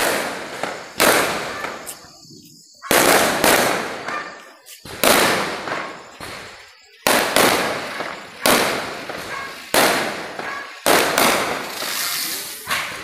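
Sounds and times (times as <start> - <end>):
firecrackers banging with echo: 0.0 - 2.1, 2.8 - 13.0.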